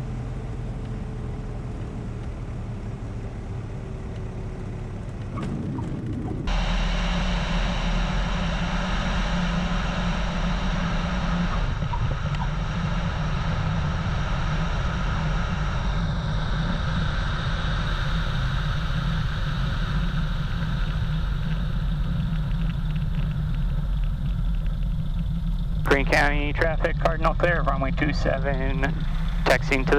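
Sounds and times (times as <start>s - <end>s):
airplane engine and propeller running: 0.0s - 29.9s.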